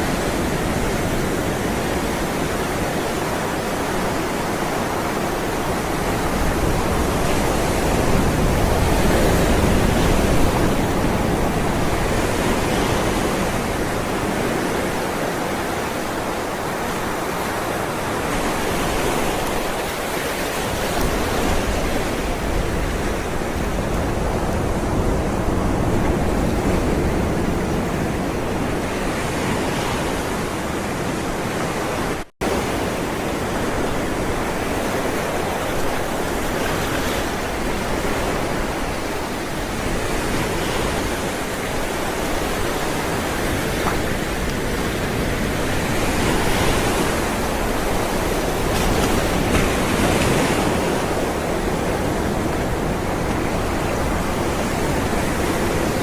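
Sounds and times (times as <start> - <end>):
ocean waves on shore: 0.0 - 56.0.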